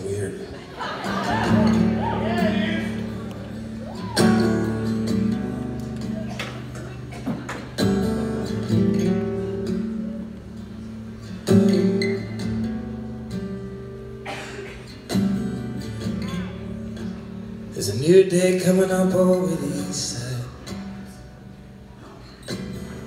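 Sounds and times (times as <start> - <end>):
acoustic guitar chords: 0.7 - 23.0.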